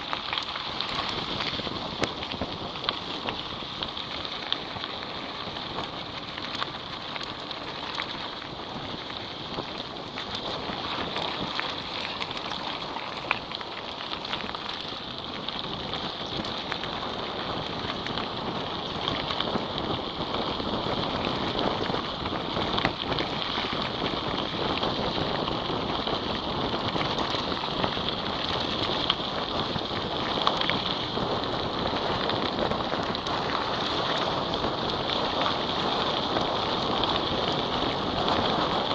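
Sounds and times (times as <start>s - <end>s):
bike clicks and rattles: 0.0s - 38.9s
tyres crunching on gravel: 0.0s - 38.9s.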